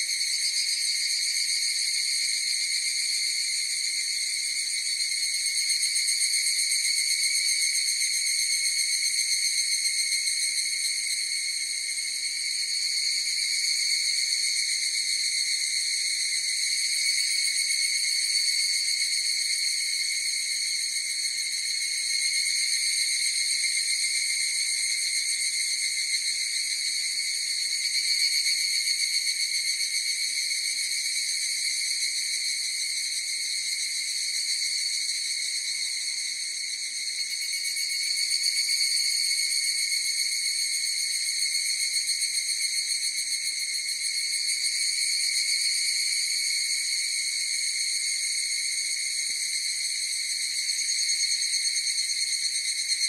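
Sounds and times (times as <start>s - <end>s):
cicadas shrill trill: 0.0s - 53.0s.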